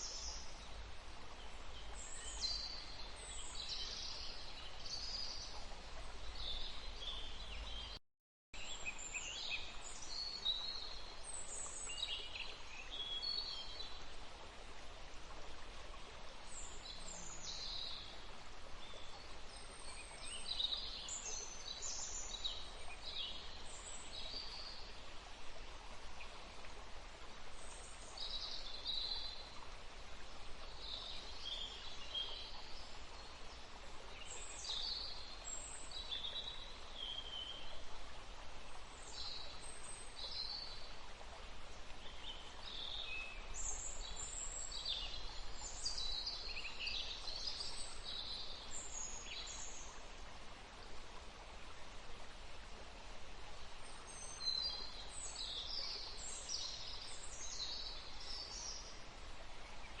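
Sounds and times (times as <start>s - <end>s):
forest stream rushing: 0.0s - 8.0s, 8.6s - 60.0s.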